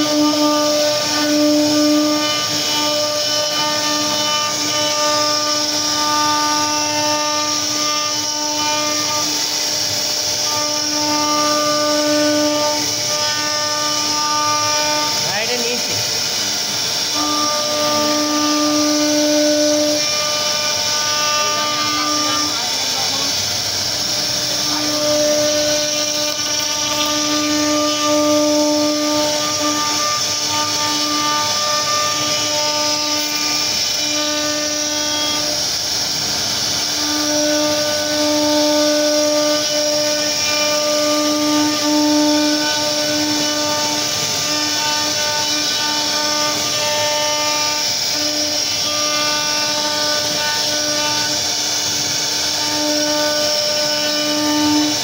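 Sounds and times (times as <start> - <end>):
hiss: 0.0 - 55.0
router spindle whine: 0.0 - 55.0.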